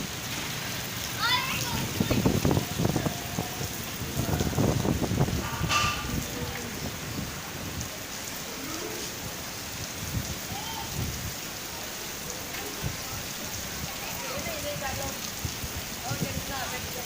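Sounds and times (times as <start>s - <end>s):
rain pattering on surfaces: 0.0s - 17.0s.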